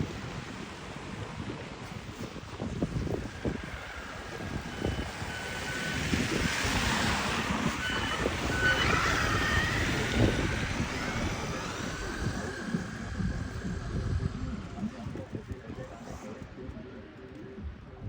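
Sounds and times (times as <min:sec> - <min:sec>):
wind buffeting microphone: 0:00.0 - 0:18.0
wavering whine: 0:02.0 - 0:18.0.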